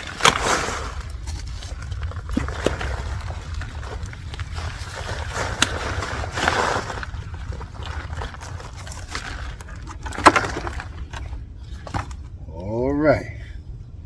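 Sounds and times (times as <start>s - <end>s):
soil and plastic bucket rustling: 0.0s - 12.4s
steady low rumble: 0.0s - 14.0s.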